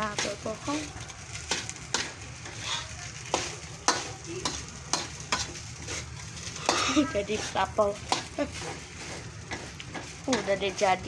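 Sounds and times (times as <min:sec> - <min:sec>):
rice sizzling in a pan: 0:00.0 - 0:11.0
spatula scraping and knocking pan: 0:00.0 - 0:11.0.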